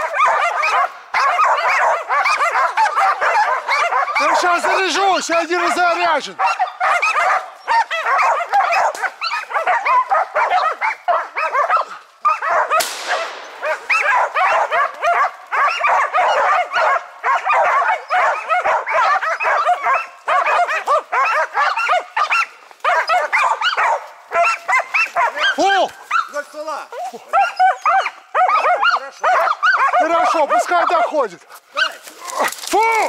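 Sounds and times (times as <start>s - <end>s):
dogs barking rapidly: 0.0s - 32.7s.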